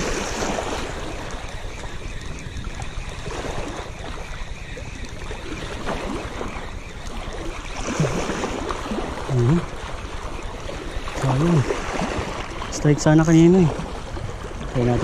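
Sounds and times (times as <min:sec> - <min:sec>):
water lapping and splashing: 0:00.0 - 0:15.0
wind buffeting microphone: 0:00.0 - 0:15.0.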